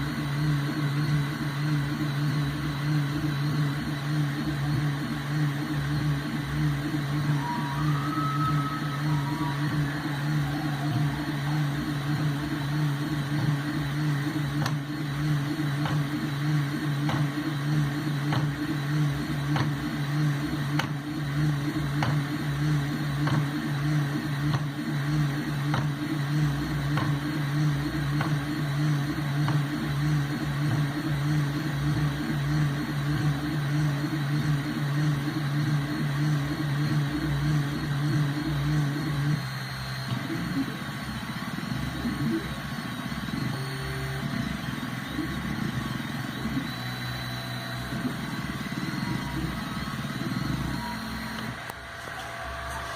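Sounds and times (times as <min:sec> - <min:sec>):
laser engraver motor hum: 0:00.0 - 0:52.9.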